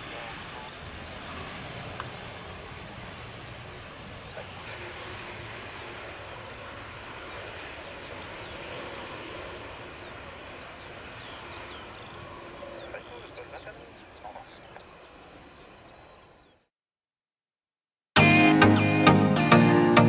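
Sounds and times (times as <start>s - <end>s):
distant jet engines rumbling: 0.0s - 16.7s.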